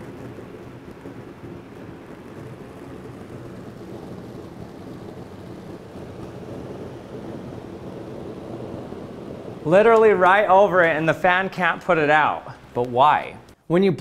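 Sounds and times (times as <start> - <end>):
electric fan blowing air: 0.0 - 14.0
faint hum: 0.0 - 14.0.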